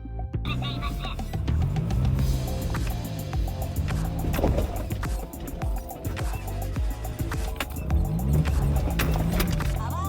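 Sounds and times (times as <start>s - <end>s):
background music: 0.0s - 10.0s
car engine revving: 0.5s - 10.0s.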